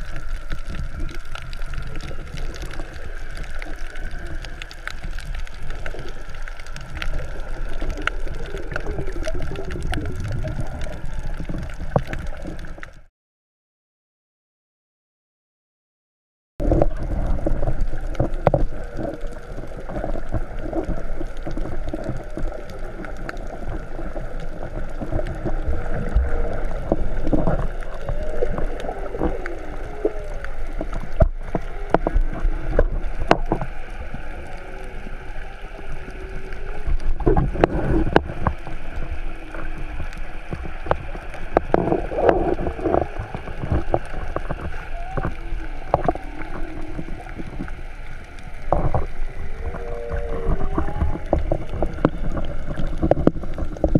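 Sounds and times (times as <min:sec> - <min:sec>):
muffled underwater rumble: 0:00.0 - 0:13.1, 0:16.6 - 0:53.9
underwater clicks and crackles: 0:00.0 - 0:13.1, 0:16.6 - 0:53.9.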